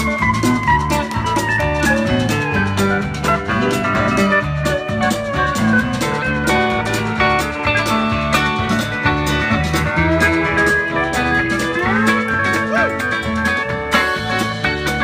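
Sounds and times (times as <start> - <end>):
country rock band playing: 0.0 - 15.0
pedal steel guitar: 0.0 - 15.0.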